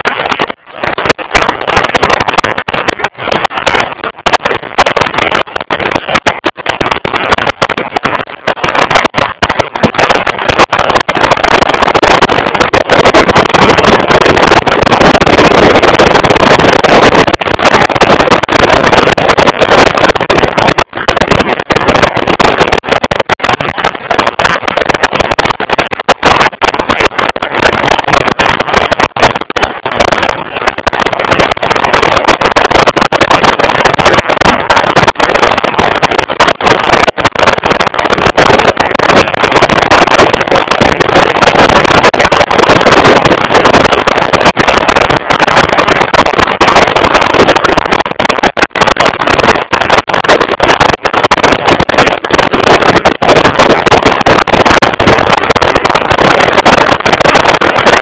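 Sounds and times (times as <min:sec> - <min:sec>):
wind roar: 0:00.0 - 0:58.0.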